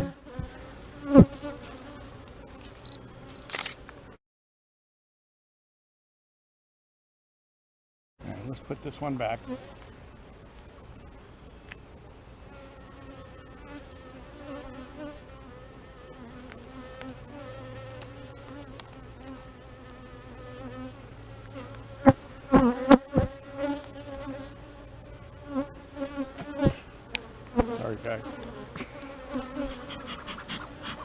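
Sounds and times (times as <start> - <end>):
honey bees buzzing: 0.0 - 4.2, 8.2 - 31.0.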